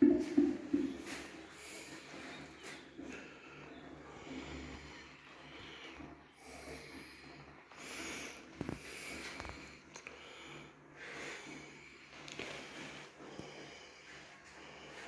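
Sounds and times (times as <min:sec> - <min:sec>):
quiet breathing: 0:00.0 - 0:15.0.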